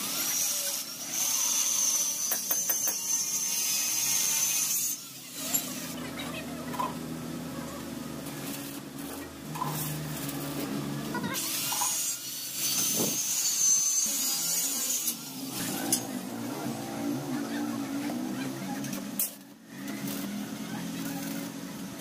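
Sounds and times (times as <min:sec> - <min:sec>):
angle grinder grinding metal: 0:00.0 - 0:07.0, 0:08.2 - 0:22.0.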